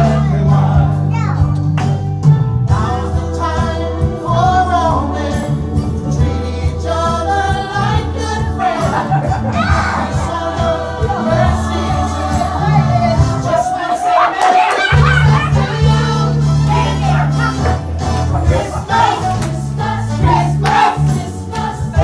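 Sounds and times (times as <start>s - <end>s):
voices singing together: 0.0s - 1.3s, 2.6s - 22.0s
instrumental backing with bass: 0.0s - 13.9s, 14.9s - 22.0s.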